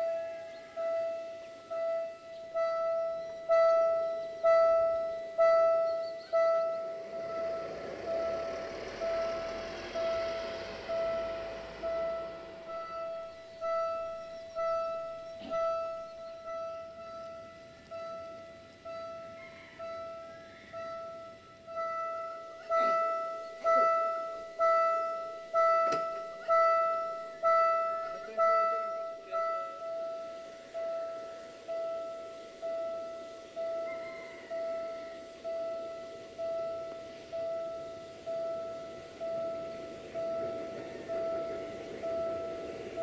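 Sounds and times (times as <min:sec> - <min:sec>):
level crossing warning bell: 0:00.0 - 0:43.0.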